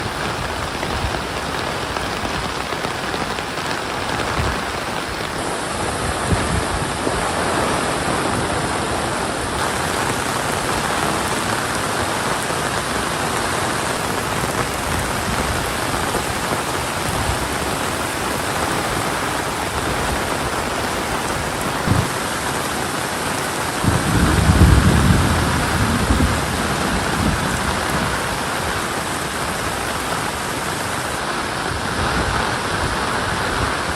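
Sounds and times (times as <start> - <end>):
rain pouring: 0.0 - 33.9.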